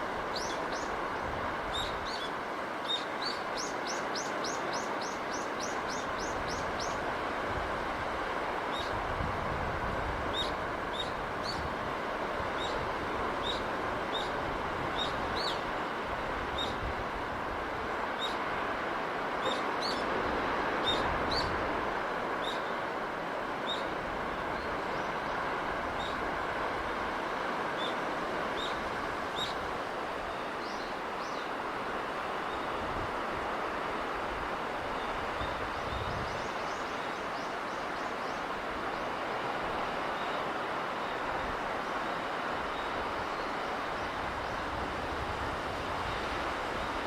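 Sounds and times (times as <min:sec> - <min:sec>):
sea breeze rushing: 0:00.0 - 0:47.0.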